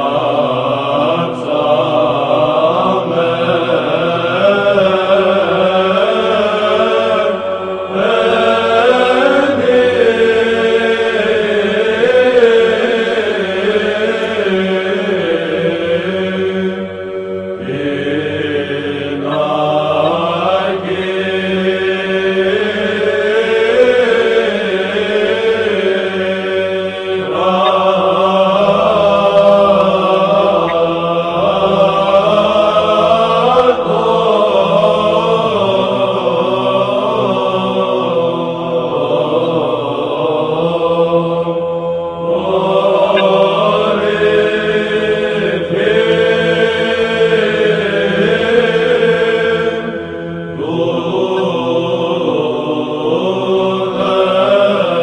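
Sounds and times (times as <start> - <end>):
chanted sung melody: 0.0 - 55.0
held vocal drone: 0.0 - 55.0.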